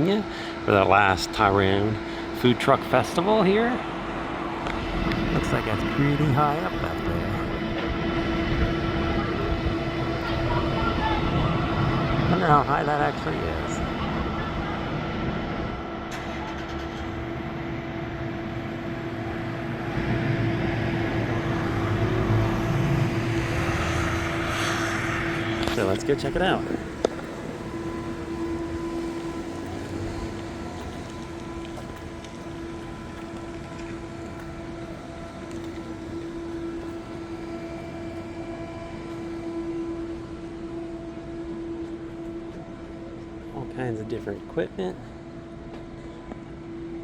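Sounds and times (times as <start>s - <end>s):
engine hum: 0.0s - 47.0s
noisy background: 0.0s - 47.0s.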